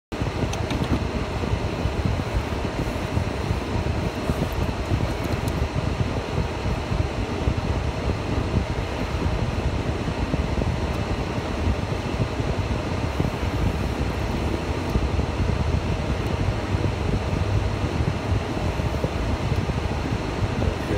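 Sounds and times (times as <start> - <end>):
car interior rumble: 0.2 - 20.9.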